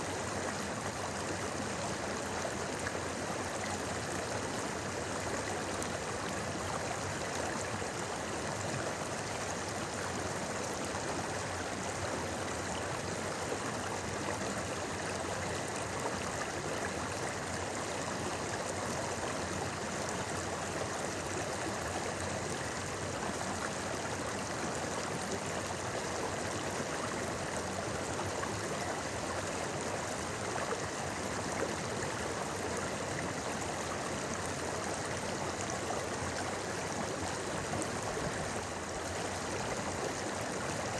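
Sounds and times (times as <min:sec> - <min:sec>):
river babbling over stones: 0:00.1 - 0:40.9.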